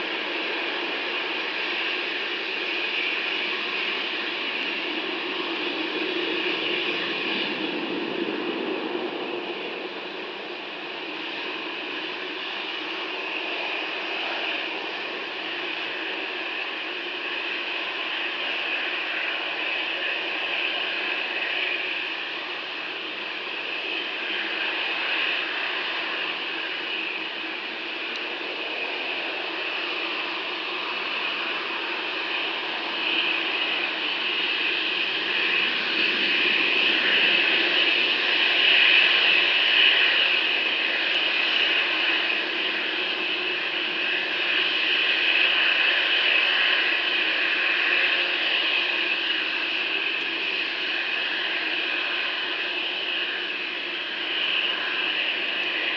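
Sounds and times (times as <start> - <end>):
jet engines at takeoff: 0.0 - 55.9.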